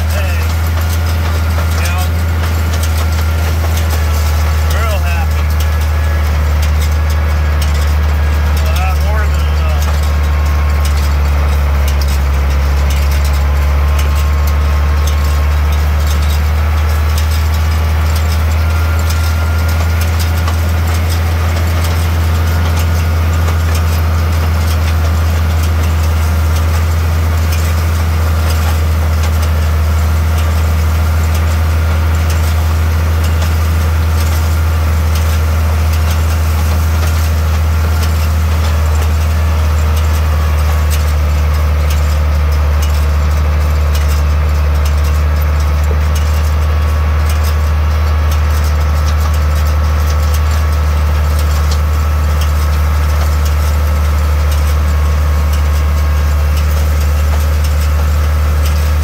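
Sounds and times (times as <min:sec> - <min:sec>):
hay rake rattling: 0:00.0 - 0:59.0
tractor engine humming: 0:00.0 - 0:59.0.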